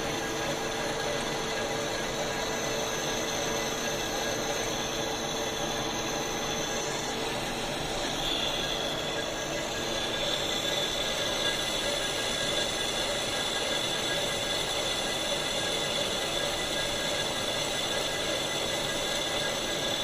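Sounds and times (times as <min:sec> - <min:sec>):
lathe cutting metal with whine: 0:00.0 - 0:20.0.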